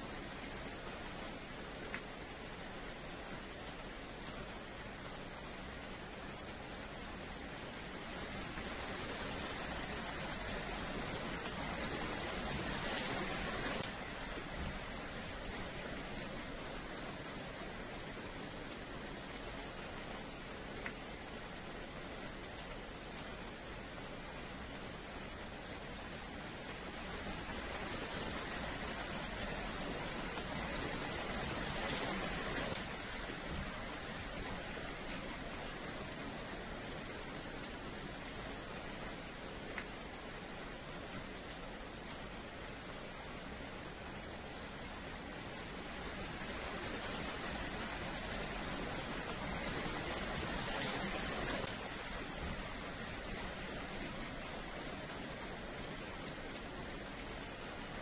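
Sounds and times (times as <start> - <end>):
rain falling on wet paving: 0.0 - 58.0.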